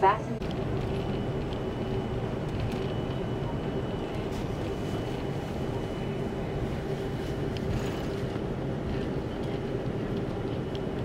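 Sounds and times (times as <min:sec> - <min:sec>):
aircraft cabin rumble and hum: 0:00.0 - 0:11.0
faint high whine: 0:00.4 - 0:11.0.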